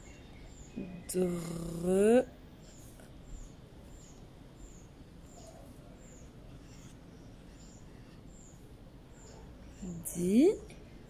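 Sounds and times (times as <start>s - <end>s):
small bird chirping: 0.0s - 2.0s, 2.6s - 11.0s
low steady hum: 0.0s - 11.0s.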